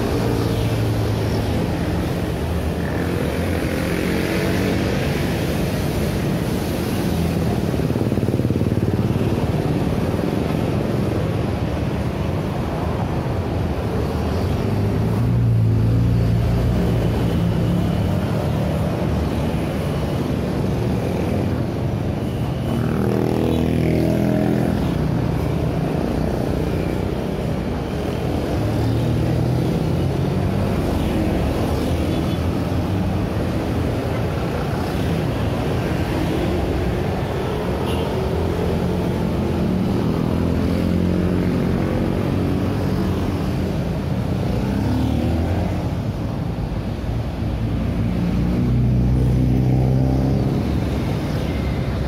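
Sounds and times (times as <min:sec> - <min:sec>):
scooters and cars passing: 0:00.0 - 0:52.0.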